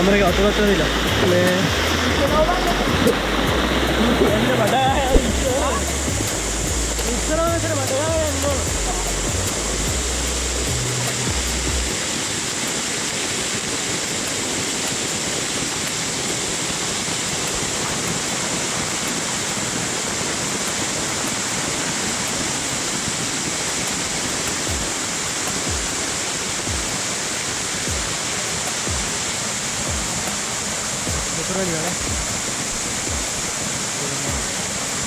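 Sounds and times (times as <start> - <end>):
waterfall rushing onto rock: 0.0 - 35.0.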